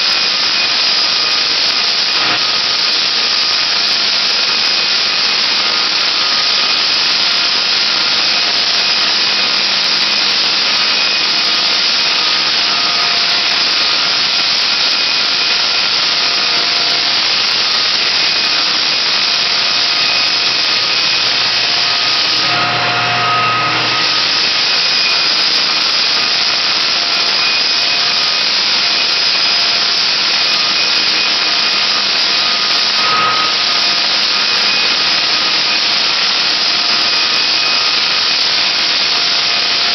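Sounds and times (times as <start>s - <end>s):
floor sander running: 0.0s - 39.9s
vacuum drawing through hose: 0.0s - 39.9s.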